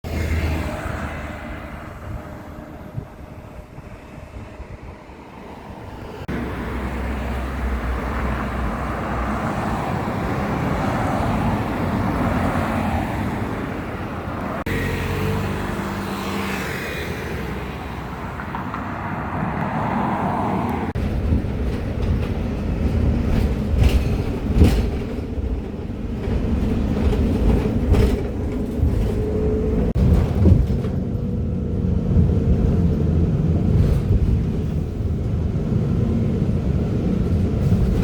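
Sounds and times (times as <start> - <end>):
outdoor traffic: 0.0 - 38.0.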